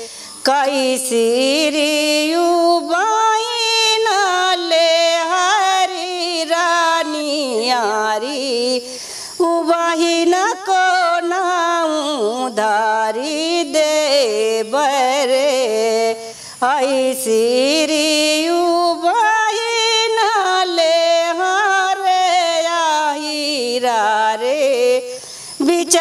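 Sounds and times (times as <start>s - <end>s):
woman singing unaccompanied: 0.0s - 26.0s.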